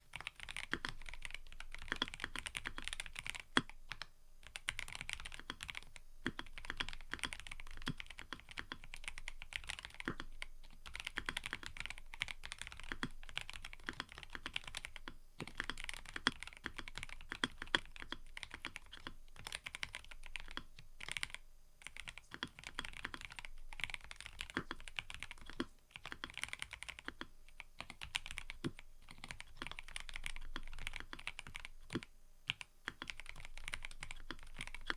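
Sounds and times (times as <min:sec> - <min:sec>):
typing on mechanical keyboard: 0:00.1 - 0:34.9.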